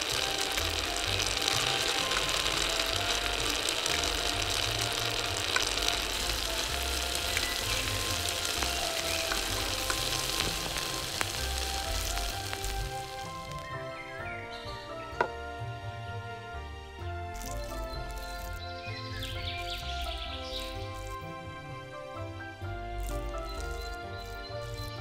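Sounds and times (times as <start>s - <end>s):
curry sizzling in clay pot: 0.0s - 25.0s
soft background music: 0.0s - 25.0s.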